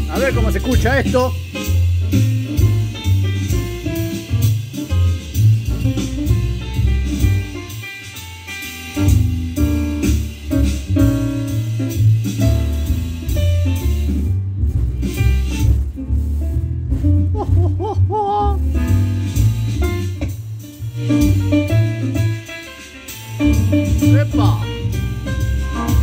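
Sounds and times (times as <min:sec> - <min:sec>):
bass-heavy music through amplifier: 0:00.0 - 0:26.0.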